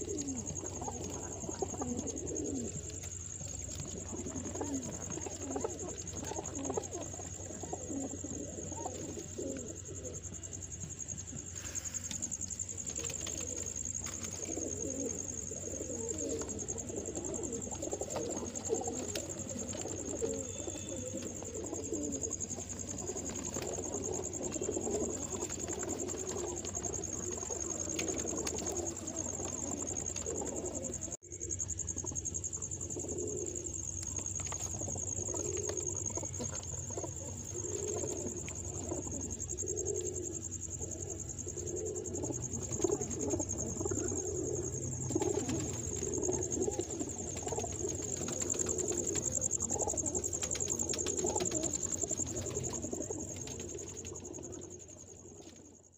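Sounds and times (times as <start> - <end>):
pigeons cooing: 0.0 - 55.7.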